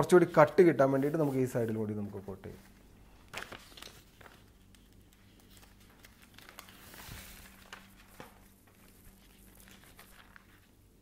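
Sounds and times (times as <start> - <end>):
plastic sheet and paper rustling: 0.0 - 10.8
low steady hum: 0.0 - 11.0.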